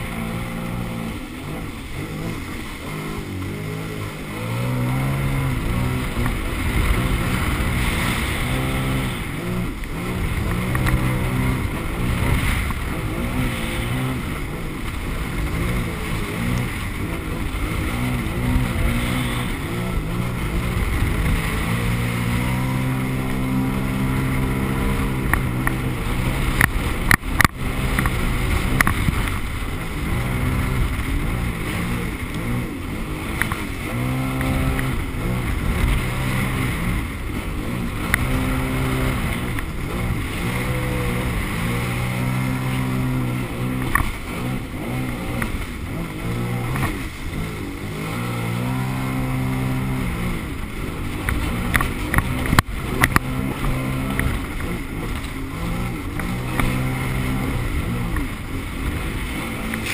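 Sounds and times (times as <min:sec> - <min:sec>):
jet ski engine revving: 0:00.0 - 0:59.9
wind and water spray rushing: 0:00.0 - 0:59.9.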